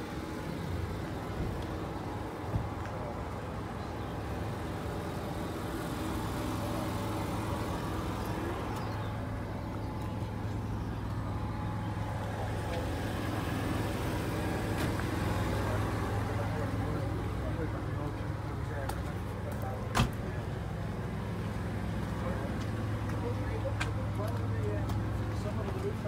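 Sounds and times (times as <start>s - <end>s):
low engine hum: 0.0s - 26.0s
outdoor background noise: 0.0s - 26.0s.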